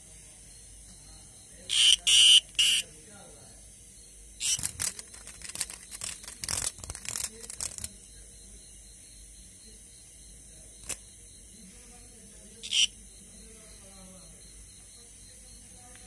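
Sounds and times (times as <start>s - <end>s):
cicada distress buzzing: 0.0s - 15.9s.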